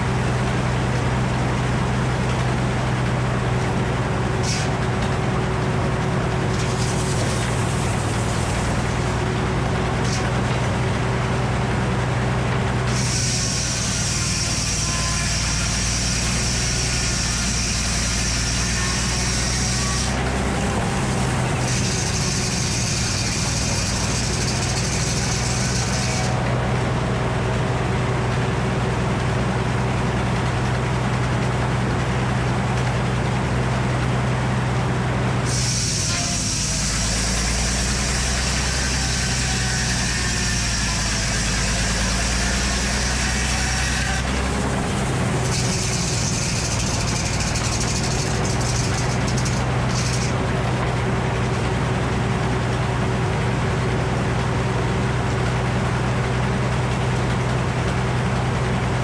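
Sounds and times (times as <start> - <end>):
circular sawmill running: 0.0 - 59.0.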